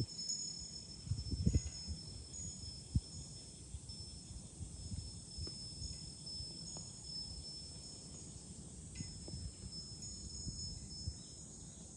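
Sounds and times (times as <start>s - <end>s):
wind chime ringing: 0.0s - 11.7s
cicadas droning: 0.0s - 11.9s
wind buffeting microphone: 0.0s - 11.9s.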